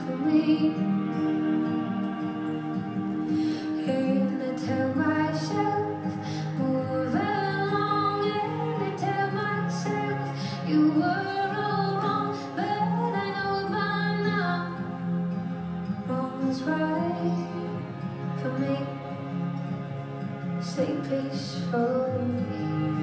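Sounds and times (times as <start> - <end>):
woman singing: 0.0 - 1.3, 3.6 - 19.2, 20.6 - 23.0
instrumental backing: 0.0 - 23.0.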